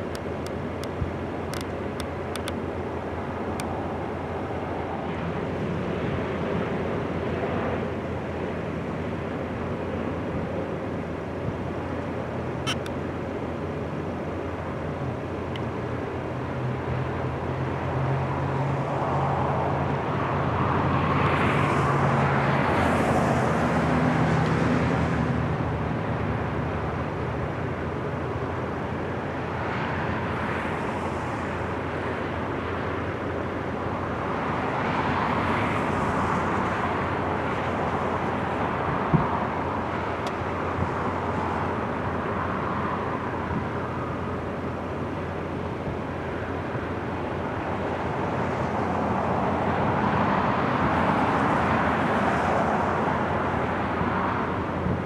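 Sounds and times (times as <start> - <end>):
turboprop aircraft propeller drone: 0.0 - 55.0.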